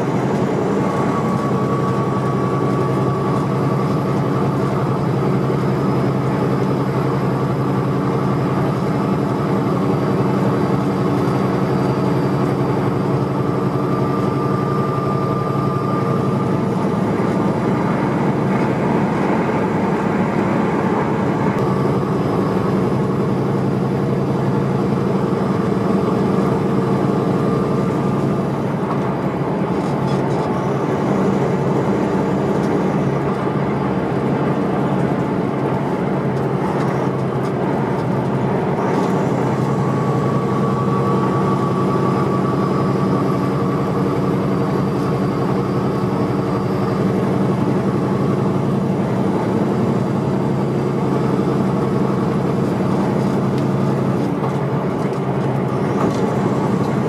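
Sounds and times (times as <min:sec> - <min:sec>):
road noise: 0:00.0 - 0:57.0
truck diesel engine droning: 0:00.0 - 0:57.0.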